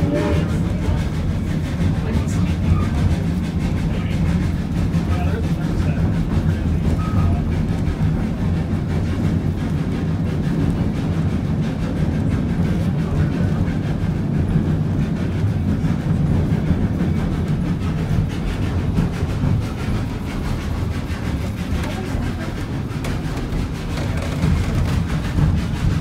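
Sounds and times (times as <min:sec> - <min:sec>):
train cars rumbling on rails: 0:00.0 - 0:26.0.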